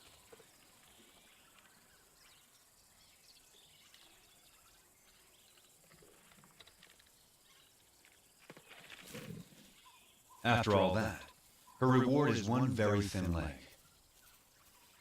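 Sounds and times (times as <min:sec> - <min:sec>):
faint chirps and ticks: 0:00.0 - 0:15.0.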